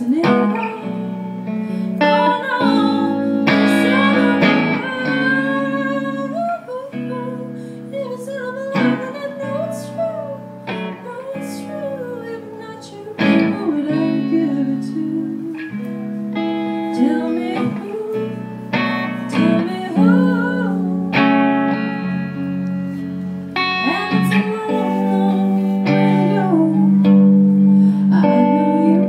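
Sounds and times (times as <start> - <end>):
woman singing: 0.0 - 21.9, 23.6 - 29.0
electric guitar strumming chords: 0.0 - 29.0.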